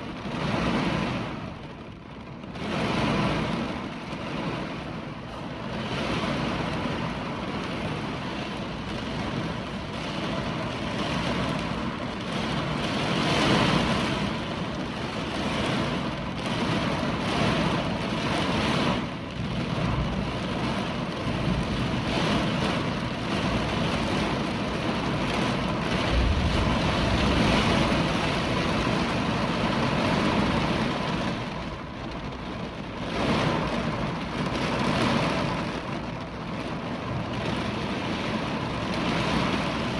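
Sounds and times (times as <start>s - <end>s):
heavy rain: 0.0s - 39.9s
hurricane wind gusts: 0.0s - 39.9s.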